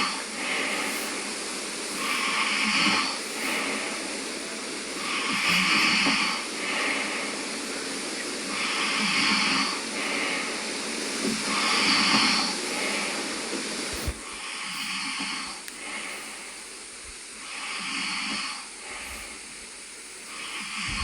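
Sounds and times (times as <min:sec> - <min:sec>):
man snoring: 0:00.0 - 0:16.6, 0:17.4 - 0:19.6.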